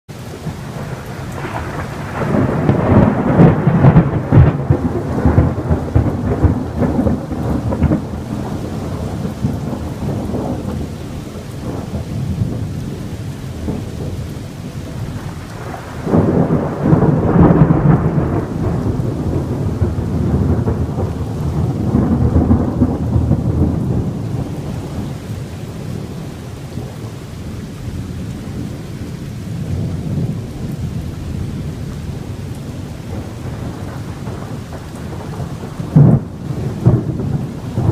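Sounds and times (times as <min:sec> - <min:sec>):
steady rain: 0:00.1 - 0:37.9
thunder rumbling: 0:00.2 - 0:37.9.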